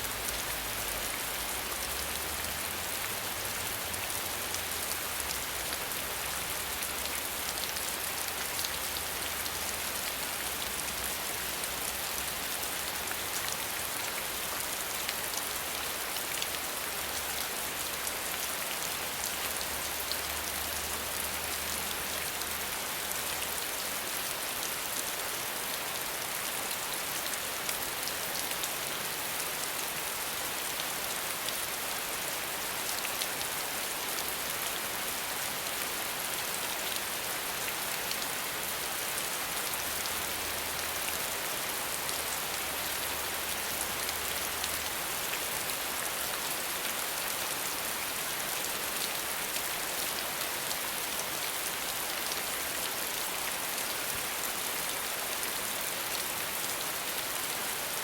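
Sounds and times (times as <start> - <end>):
patter of raindrops: 0.0 - 58.0
steady rain hiss: 0.0 - 58.0.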